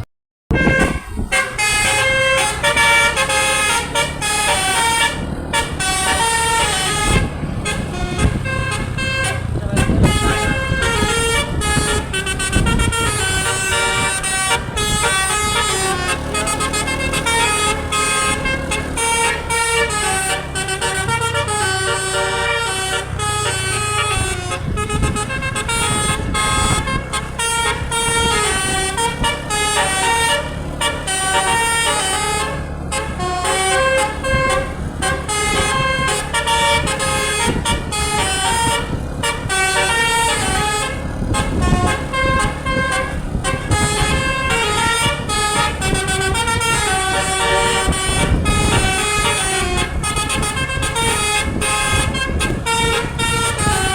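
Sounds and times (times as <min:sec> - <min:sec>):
musical air horn tune: 0:00.0 - 0:53.9
vehicle engine running: 0:00.6 - 0:53.9.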